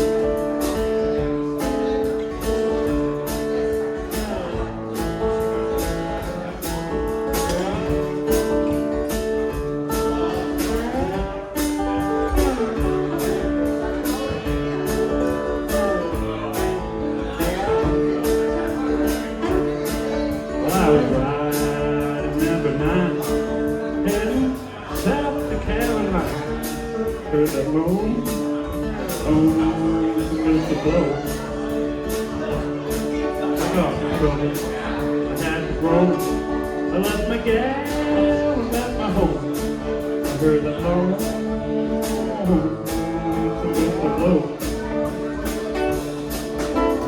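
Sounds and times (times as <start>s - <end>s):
slide guitar: 0.0s - 47.0s
strummed acoustic guitar: 0.0s - 47.0s.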